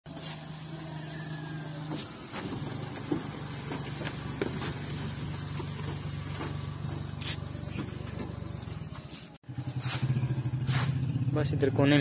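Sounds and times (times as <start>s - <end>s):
small truck engine idling: 0.1s - 12.0s.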